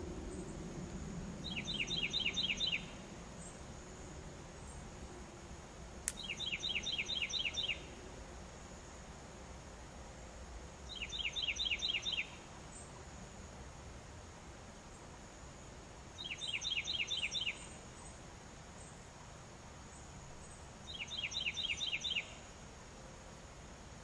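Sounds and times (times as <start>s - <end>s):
songbird singing: 0.0s - 9.5s, 10.3s - 13.8s, 14.5s - 24.0s
high insect drone: 0.0s - 24.0s.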